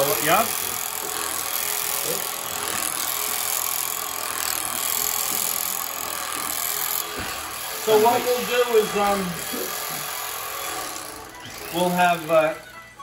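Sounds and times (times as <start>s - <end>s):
small motor whirring: 0.0s - 13.0s.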